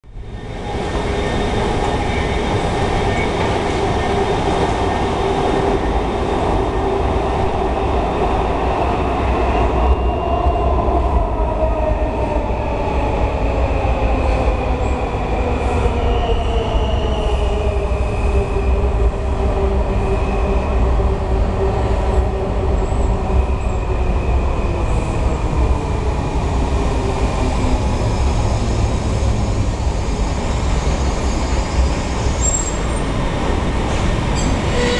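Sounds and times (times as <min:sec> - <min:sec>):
train wheels rumbling on rail: 0:00.1 - 0:34.9.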